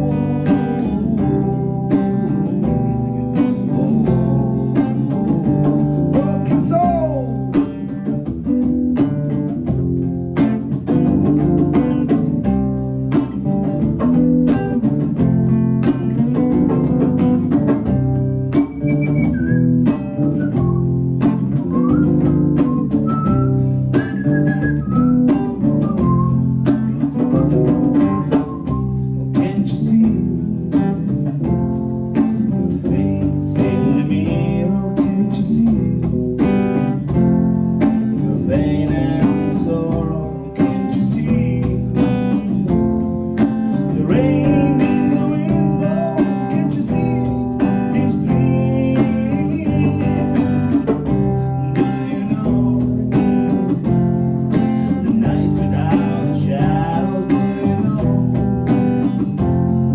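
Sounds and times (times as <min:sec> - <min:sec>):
drums keeping steady beat: 0:00.0 - 0:59.9
guitar playing: 0:00.0 - 0:59.9.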